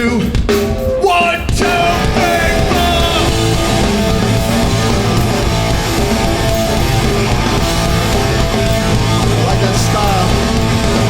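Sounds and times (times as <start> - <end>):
bass guitar: 0.0 - 11.0
distorted electric guitars: 0.0 - 11.0
drums: 0.0 - 11.0.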